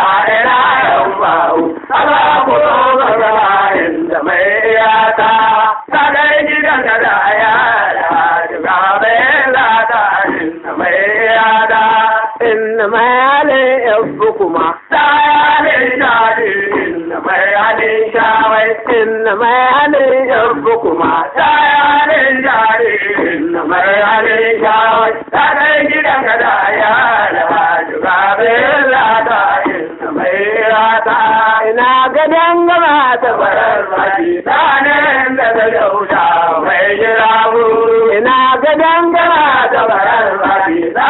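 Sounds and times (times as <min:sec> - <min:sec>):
man singing: 0:00.0 - 0:41.0
voices singing along: 0:00.0 - 0:41.0.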